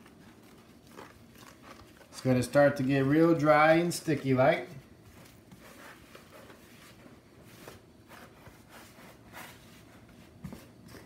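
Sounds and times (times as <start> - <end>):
wooden spoon scraping dough: 0.0 - 11.0.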